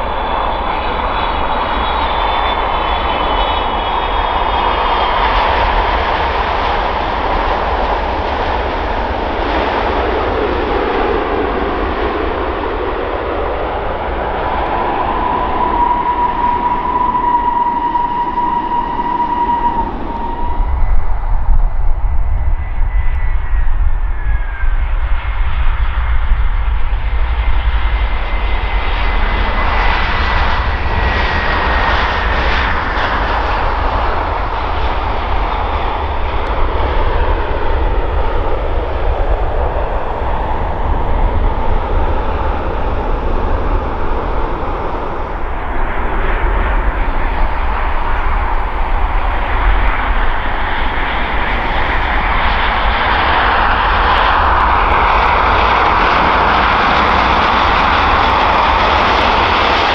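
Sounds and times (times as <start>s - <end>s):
jet engine rumble and roar: 0.0s - 59.9s
jet engine whine: 0.0s - 59.9s.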